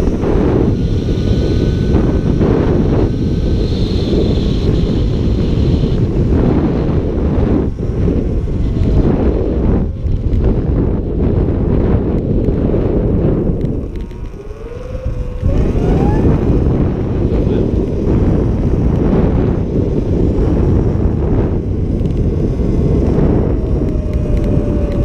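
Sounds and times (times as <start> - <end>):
electric motor whine: 0.0 - 25.0
wind buffeting microphone: 0.0 - 25.0.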